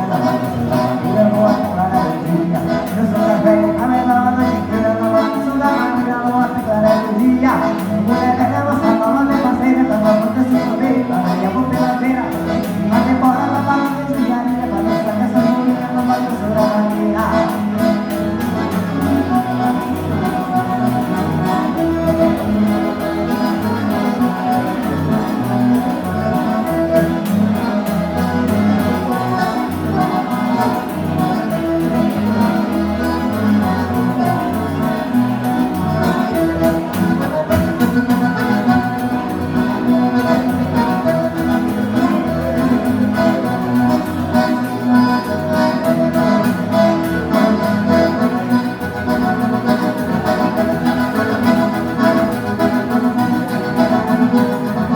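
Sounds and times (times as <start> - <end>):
dance band music with accordion: 0.0 - 54.9.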